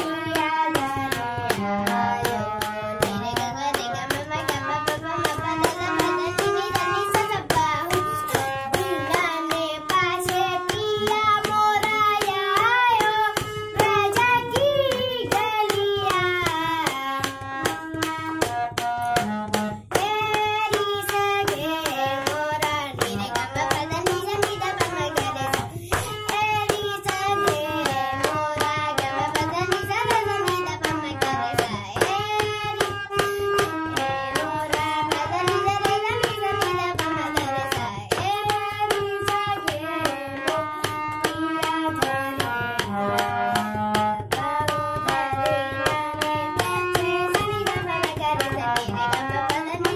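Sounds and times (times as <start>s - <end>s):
boy singing: 0.0s - 49.9s
fast percussive strokes: 0.0s - 49.9s
harmonium: 0.0s - 49.9s.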